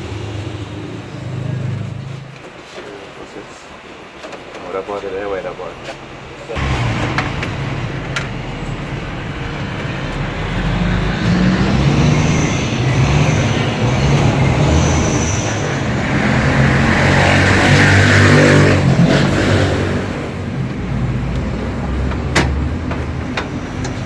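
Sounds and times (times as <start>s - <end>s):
vehicle engine running: 0.0s - 2.5s, 5.2s - 24.0s.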